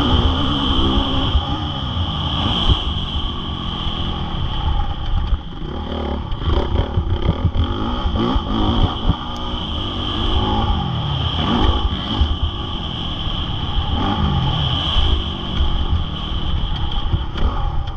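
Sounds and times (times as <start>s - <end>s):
motocross bike engine revving: 0.0s - 17.9s.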